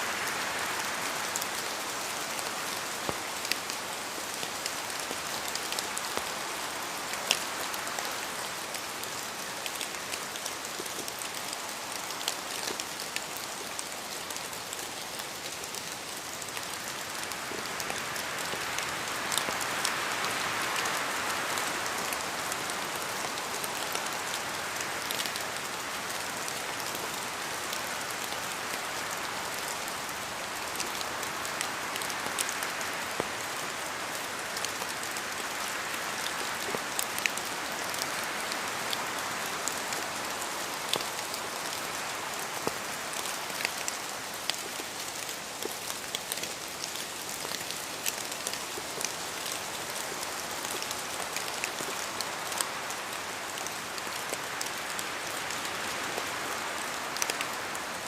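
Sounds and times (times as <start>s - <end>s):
raindrops striking close by: 0.0s - 58.0s
steady rain falling: 0.0s - 58.0s.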